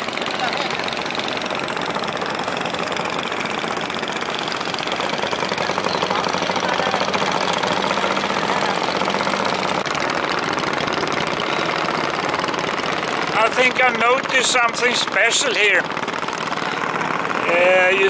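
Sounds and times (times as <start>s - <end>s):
small boat engine knocking: 0.0s - 18.0s.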